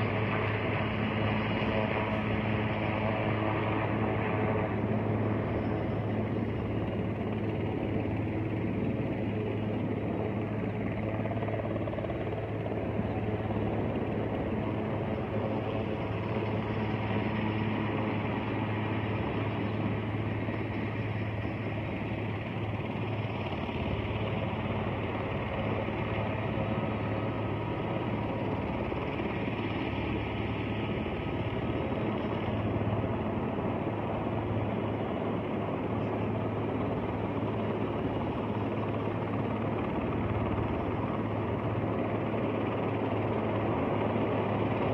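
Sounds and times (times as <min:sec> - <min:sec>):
distant helicopter hovering: 0:00.0 - 0:44.9.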